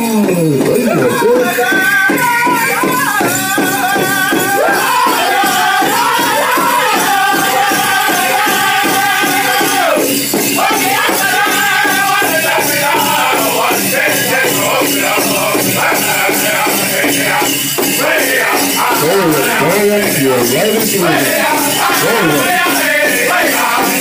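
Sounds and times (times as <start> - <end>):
bass drum beating: 0.0 - 24.0
men singing in unison: 0.0 - 24.0.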